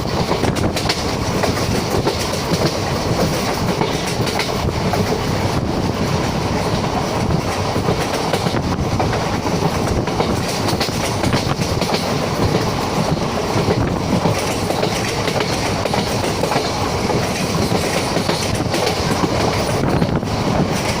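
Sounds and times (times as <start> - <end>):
train wheels rolling on rails: 0.0 - 21.0.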